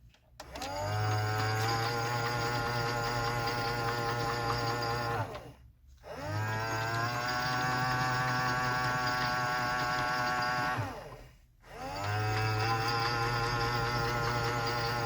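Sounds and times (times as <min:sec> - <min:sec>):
washing machine motor whine: 0:00.4 - 0:15.0.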